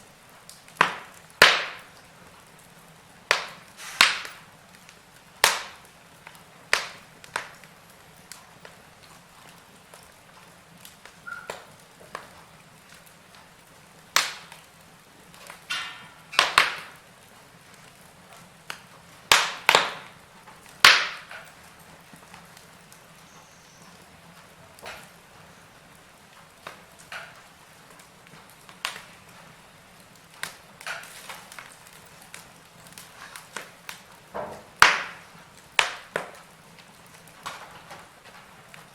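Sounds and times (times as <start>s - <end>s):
burning logs popping: 0.0s - 38.9s
faint steady hiss: 0.0s - 38.9s
wood fire crackling: 0.0s - 38.9s.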